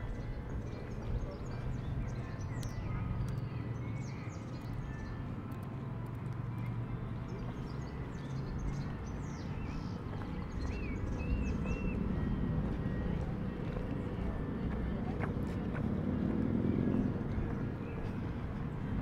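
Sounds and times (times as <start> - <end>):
small birds chirping: 0.0 - 15.8, 16.4 - 19.0
low outdoor rumble: 0.0 - 19.0.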